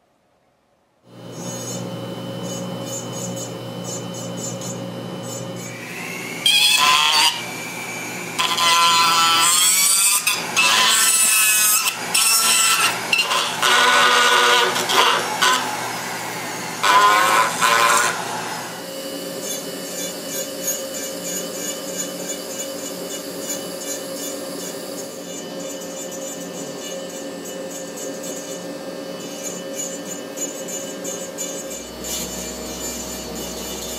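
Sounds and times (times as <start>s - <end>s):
rotary tool grinding horn: 1.3s - 33.9s.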